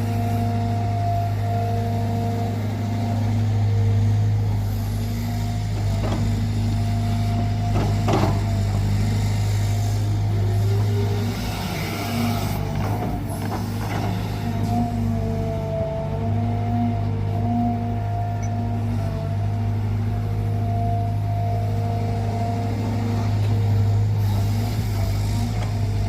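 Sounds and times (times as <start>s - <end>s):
excavator diesel engine running: 0.0s - 26.0s
hydraulic whine: 0.0s - 26.0s.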